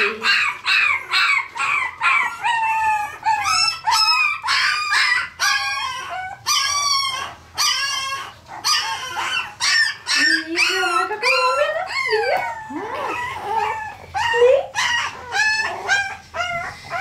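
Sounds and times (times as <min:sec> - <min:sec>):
puppies yelping and whining: 0:00.0 - 0:17.0.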